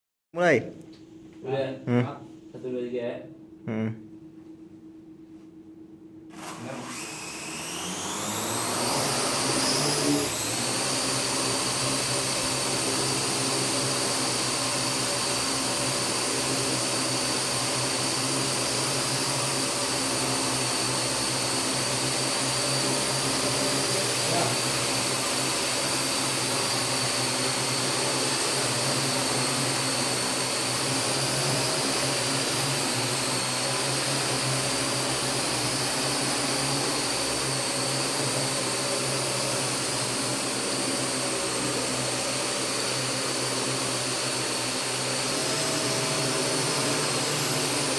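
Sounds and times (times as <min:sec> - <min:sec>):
drone propellers whining: 0:06.9 - 0:47.9.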